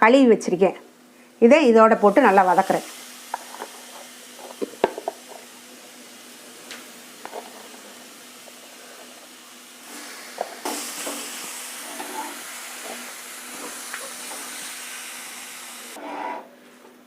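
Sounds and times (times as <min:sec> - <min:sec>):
chicken sizzling in hot oil: 0:02.1 - 0:16.0.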